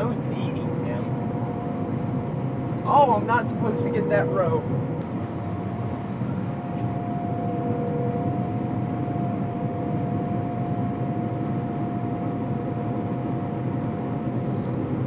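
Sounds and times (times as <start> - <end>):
high whine: 0.0 - 15.0
machine drone: 0.0 - 15.0.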